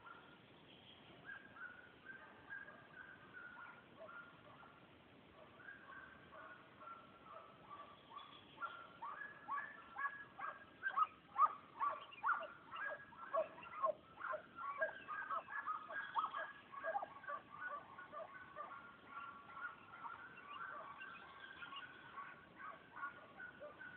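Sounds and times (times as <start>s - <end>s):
hounds baying: 1.3s - 4.8s, 5.4s - 23.9s.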